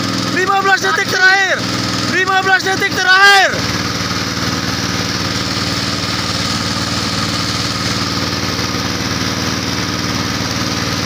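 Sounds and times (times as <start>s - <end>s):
small boat engine running: 0.0s - 11.0s.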